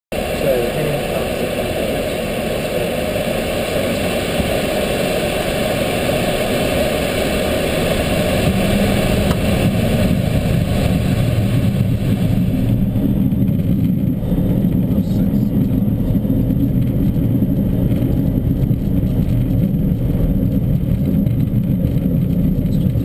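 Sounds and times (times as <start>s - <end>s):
light aircraft engine: 0.1s - 23.0s.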